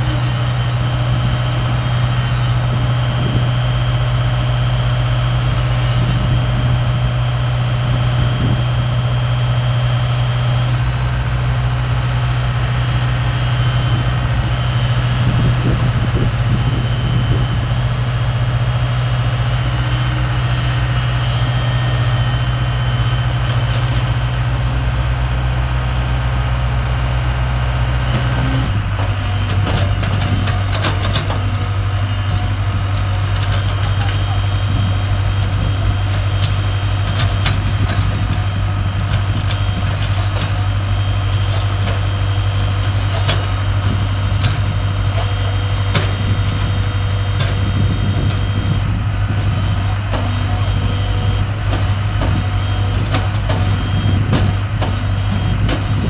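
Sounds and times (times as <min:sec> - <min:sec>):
diesel excavator engine running: 0:00.0 - 0:56.0.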